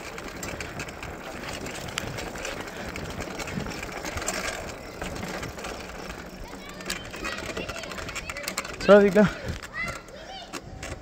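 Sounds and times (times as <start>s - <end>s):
bike tyre noise on road: 0.0s - 11.0s.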